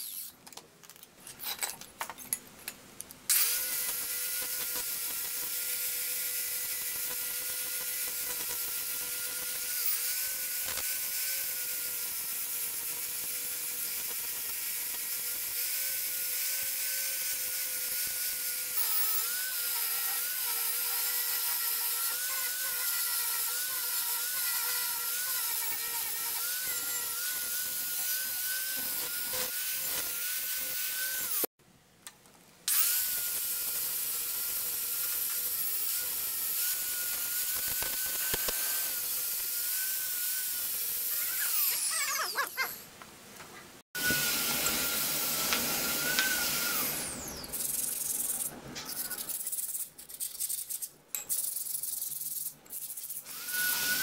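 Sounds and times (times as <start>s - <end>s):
angle grinder grinding metal: 0.0s - 0.4s, 3.3s - 31.5s, 32.7s - 42.8s, 44.0s - 54.0s.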